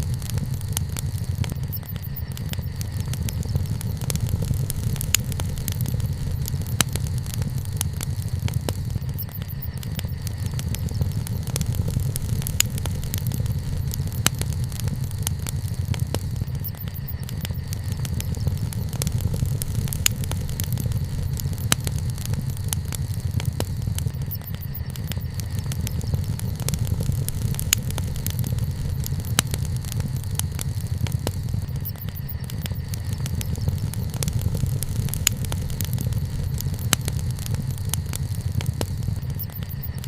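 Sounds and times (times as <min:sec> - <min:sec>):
campfire rumble: 0:00.0 - 0:40.0
fire crackles and pops: 0:00.0 - 0:40.0.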